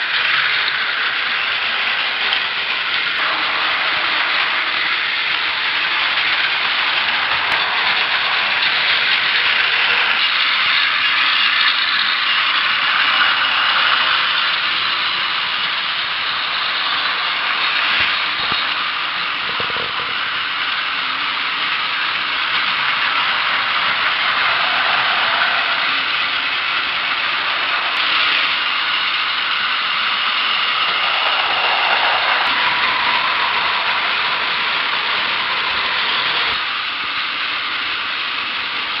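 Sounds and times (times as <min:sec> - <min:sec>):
toy trains motors whirring: 0:00.0 - 0:39.0.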